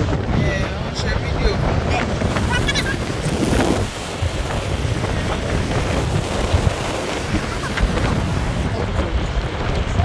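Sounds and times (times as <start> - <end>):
wind buffeting microphone: 0.0 - 10.0
waterfall roaring: 0.9 - 10.0.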